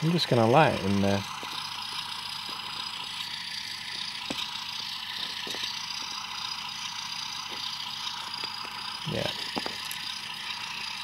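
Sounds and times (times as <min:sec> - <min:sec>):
tinny diesel engine idle: 0:00.0 - 0:11.0.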